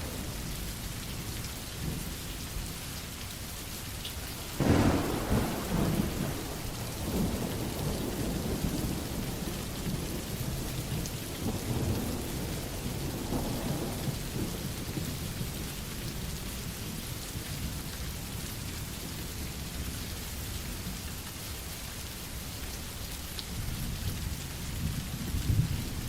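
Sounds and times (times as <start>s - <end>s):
low rumble of thunder: 0.0s - 2.7s, 4.6s - 20.4s, 23.5s - 26.0s
steady rain: 0.0s - 26.0s.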